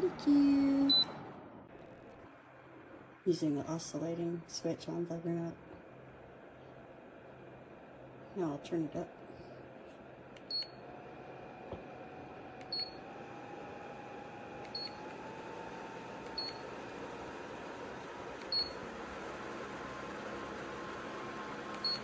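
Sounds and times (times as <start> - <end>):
fan motor hum: 0.0 - 22.0.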